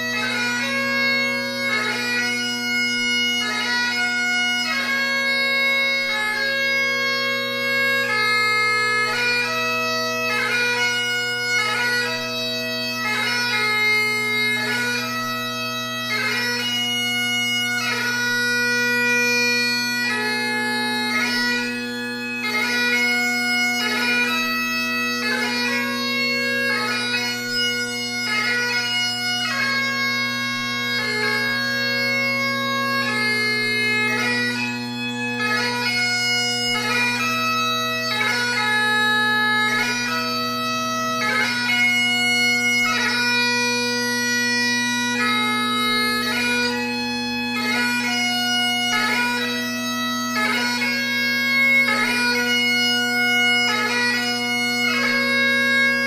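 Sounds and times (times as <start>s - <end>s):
bagpipe playing a tune: 0.0s - 56.0s.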